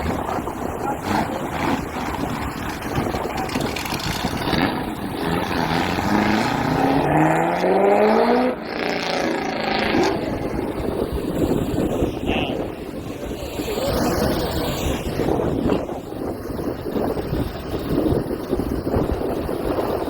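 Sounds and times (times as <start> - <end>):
car engine accelerating: 0.0 - 20.0
wind noise on microphone: 0.0 - 20.0.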